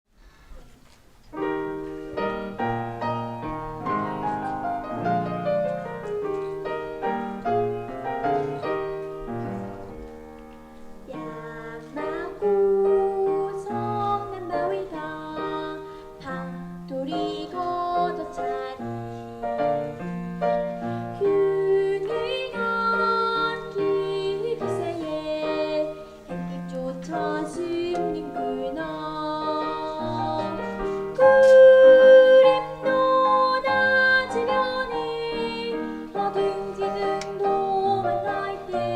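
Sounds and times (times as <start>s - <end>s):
children's song on piano: 1.3s - 38.9s.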